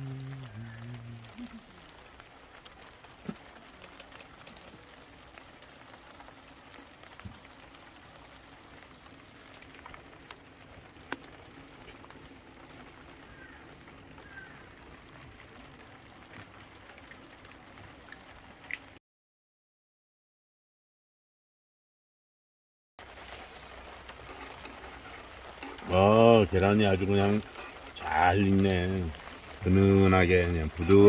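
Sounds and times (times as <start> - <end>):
light rain pattering: 0.0 - 19.0, 23.0 - 31.0.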